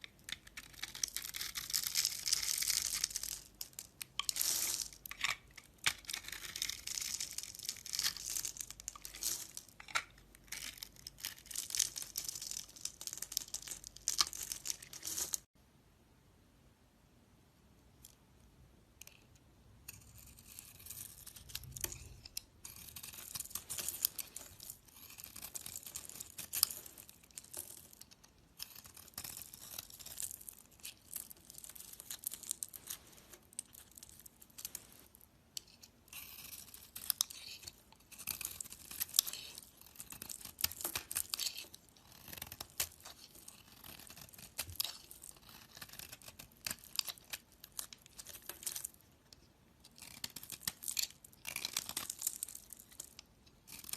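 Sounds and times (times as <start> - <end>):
knife carving soap: 0.0 - 15.5, 19.0 - 34.8, 35.4 - 53.9.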